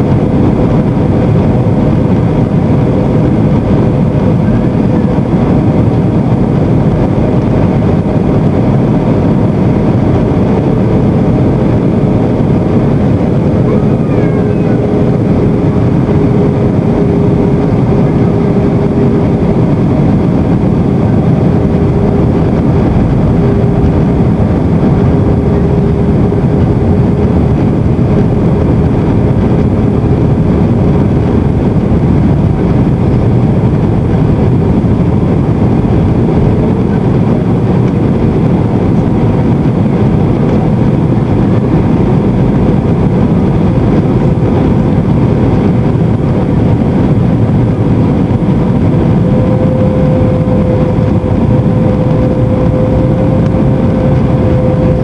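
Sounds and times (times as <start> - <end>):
faint steady whine: 0.0 - 55.0
jet engines roaring: 0.0 - 55.0.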